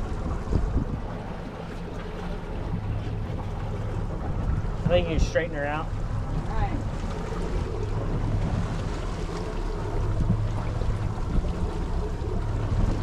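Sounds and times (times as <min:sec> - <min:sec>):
outboard motor running: 0:00.0 - 0:13.0
water around boat hull: 0:00.0 - 0:13.0
wind buffeting microphone: 0:00.0 - 0:13.0.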